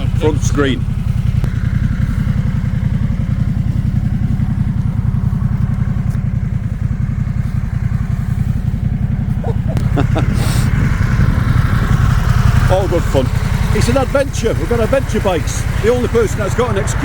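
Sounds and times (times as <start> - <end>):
motorcycle engine low throb: 0.0 - 17.0.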